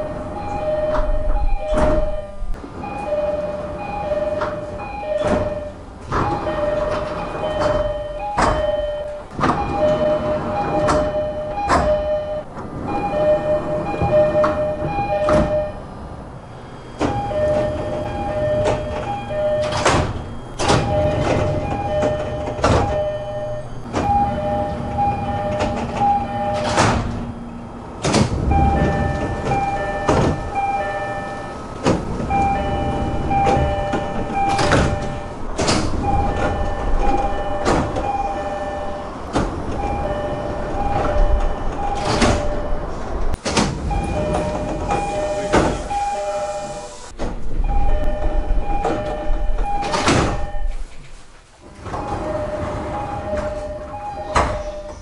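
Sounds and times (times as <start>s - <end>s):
train door chimes: 0.0s - 16.0s, 16.6s - 27.7s, 28.3s - 51.1s, 51.7s - 55.0s
train doors sliding with knocks: 0.0s - 55.0s.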